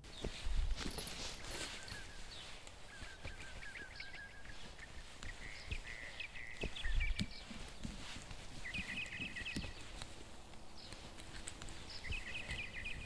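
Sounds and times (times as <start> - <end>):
small bird chirping rapidly: 1.4 - 13.0.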